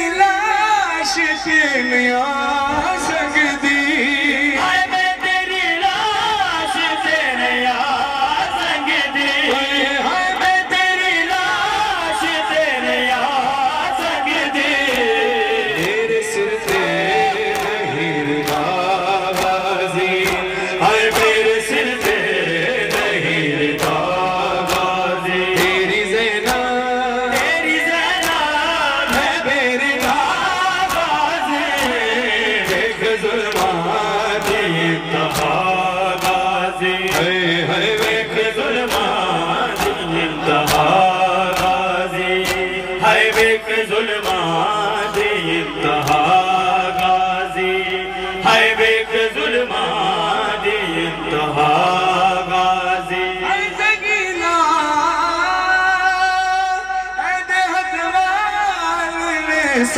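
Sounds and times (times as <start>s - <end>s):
man singing through loudspeakers: 0.0s - 59.9s
men chanting in chorus: 0.0s - 59.9s.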